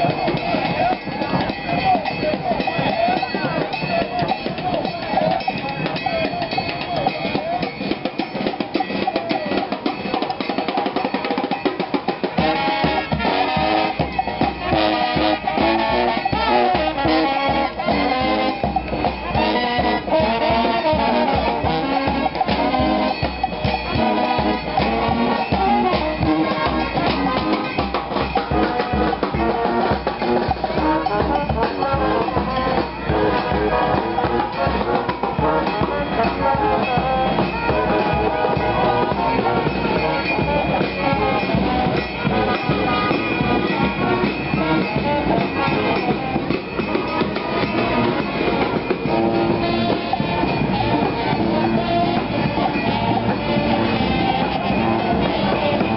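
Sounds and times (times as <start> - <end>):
street brass band playing: 0.0 - 55.9.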